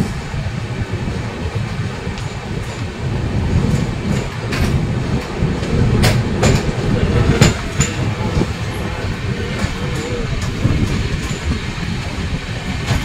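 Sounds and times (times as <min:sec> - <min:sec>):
train rumbling along track: 0:00.0 - 0:13.0
wheels clacking over rail joints: 0:00.0 - 0:13.0.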